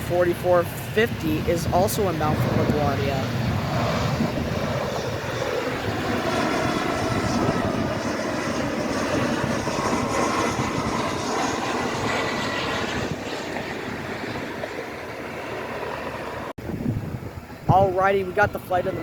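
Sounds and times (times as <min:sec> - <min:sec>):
jet engines rushing with whine: 0:00.0 - 0:19.0.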